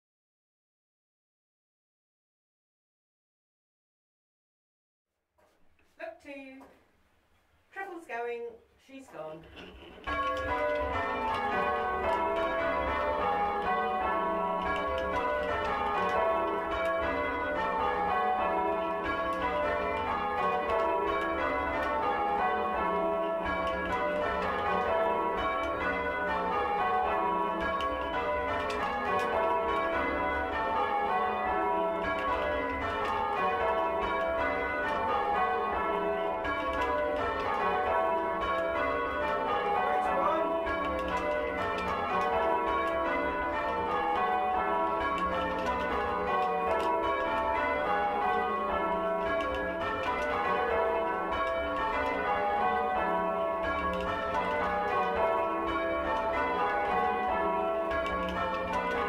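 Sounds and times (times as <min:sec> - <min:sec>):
church bells change ringing: 0:09.5 - 0:59.0.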